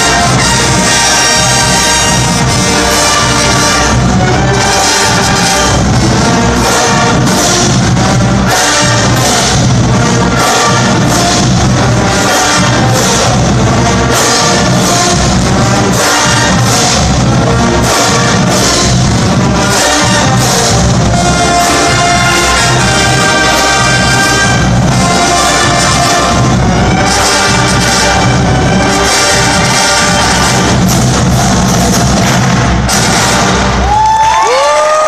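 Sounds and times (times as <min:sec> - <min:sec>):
steady drum beat: 0:00.0 - 0:34.3
marching band playing brass music: 0:00.0 - 0:35.0.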